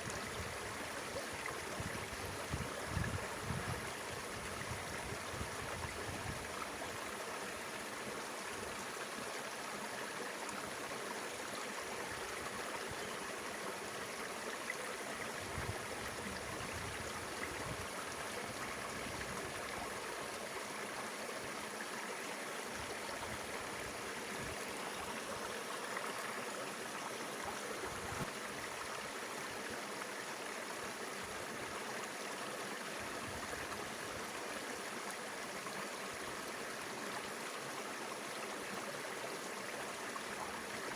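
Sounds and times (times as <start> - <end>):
river water rushing and gurgling: 0.0 - 40.9.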